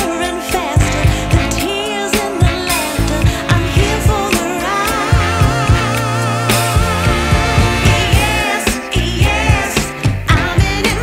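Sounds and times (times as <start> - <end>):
drums and bass: 0.0 - 11.0.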